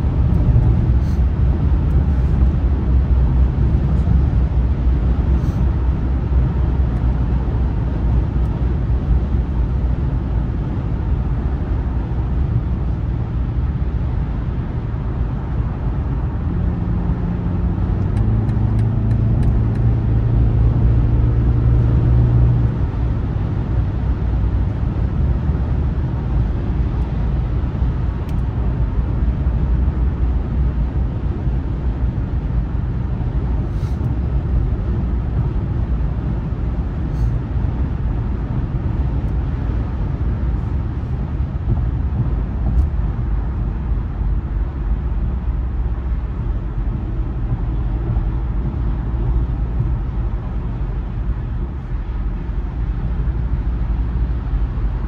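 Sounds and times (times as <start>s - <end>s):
car cabin road and engine rumble: 0.0s - 55.0s
deep steady drone: 0.0s - 55.0s.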